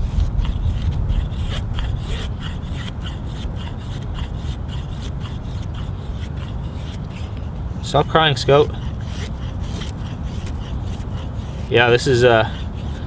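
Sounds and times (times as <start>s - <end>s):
knife scraping wooden stick: 0.0s - 13.0s.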